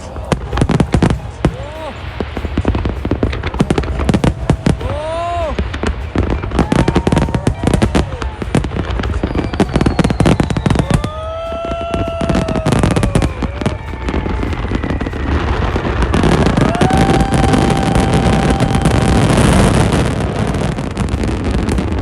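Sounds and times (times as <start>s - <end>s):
fireworks bangs and crackles: 0.0s - 22.0s
fireworks whistling: 0.0s - 22.0s.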